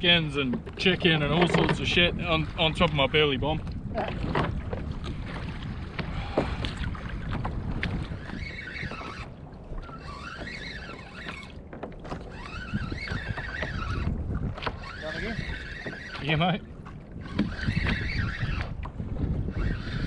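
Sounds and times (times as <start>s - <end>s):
water slapping against kayak: 0.0s - 20.0s
wind buffeting microphone: 0.0s - 20.0s.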